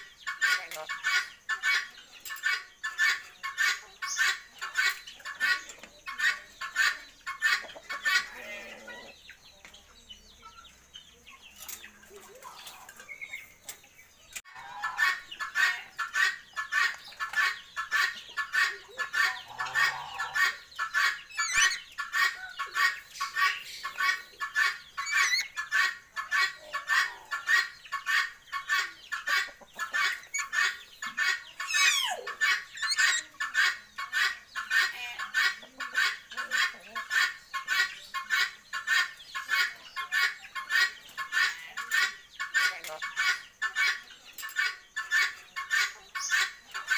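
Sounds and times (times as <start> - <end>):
bird clucking: 0.0 - 46.9.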